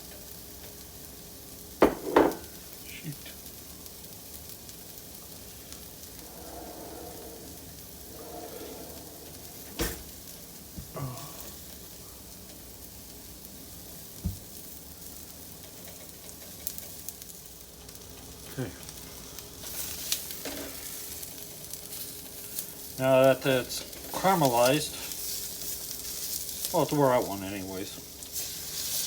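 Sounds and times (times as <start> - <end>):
onions sizzling in a pan: 0.0 - 29.0.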